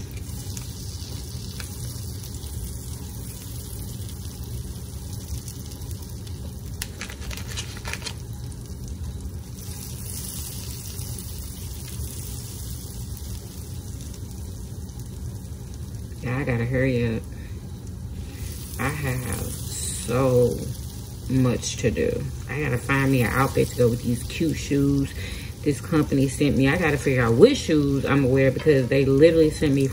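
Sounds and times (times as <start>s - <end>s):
butter sizzling in a skillet: 0.0s - 29.9s.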